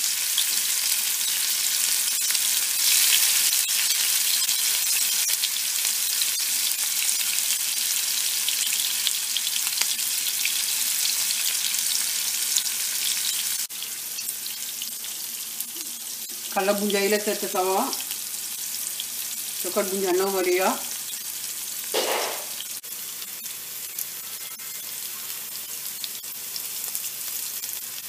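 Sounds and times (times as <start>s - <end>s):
vegetables sizzling in hot oil: 0.0s - 28.0s.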